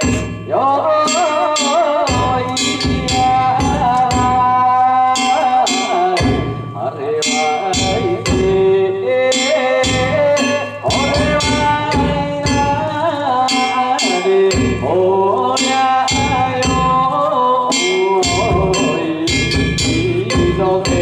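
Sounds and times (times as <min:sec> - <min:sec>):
drum and gong beats: 0:00.0 - 0:21.0.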